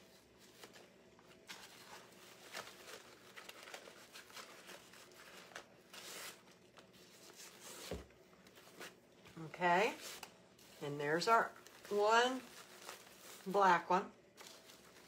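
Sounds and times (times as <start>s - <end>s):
ribbon rustling and crinkling: 0.0s - 15.0s.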